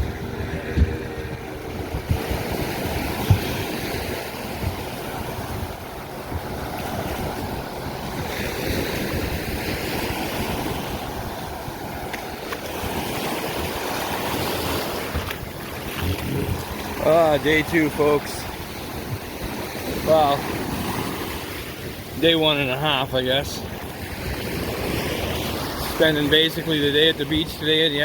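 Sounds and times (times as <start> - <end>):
ocean surf washing onto beach: 0.0 - 28.0
wind buffeting microphone: 0.0 - 28.0.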